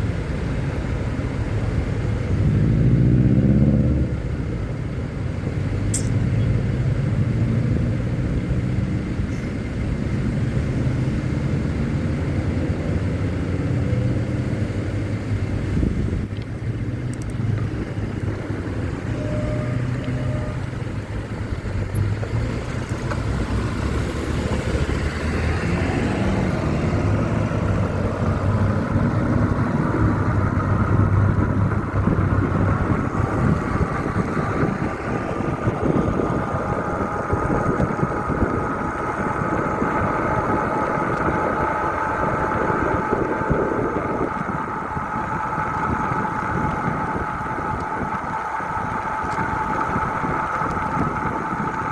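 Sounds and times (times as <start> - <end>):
road noise: 0.0 - 51.9
motorcycle engine running: 0.6 - 51.9.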